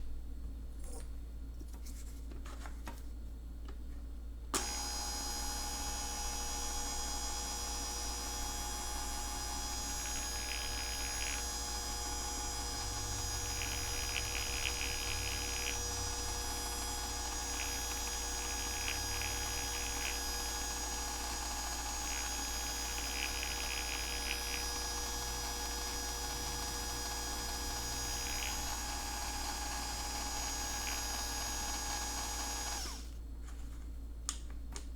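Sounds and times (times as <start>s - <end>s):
hand blender motor whining: 4.6s - 33.1s.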